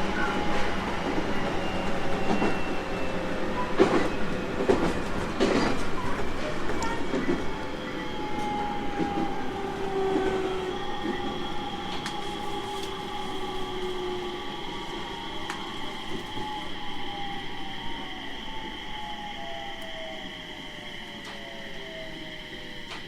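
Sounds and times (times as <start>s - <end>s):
electric train traction motors whining: 0.0s - 23.0s.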